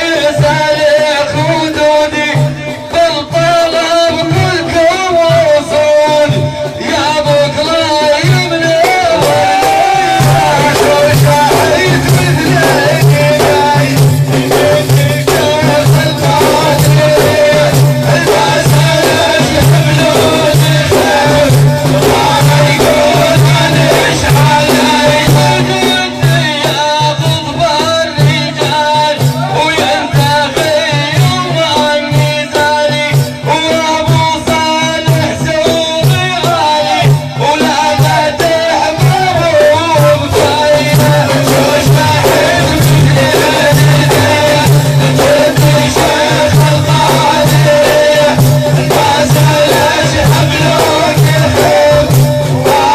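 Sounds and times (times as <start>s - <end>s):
drum strokes: 0.0s - 52.9s
man singing: 0.0s - 52.9s.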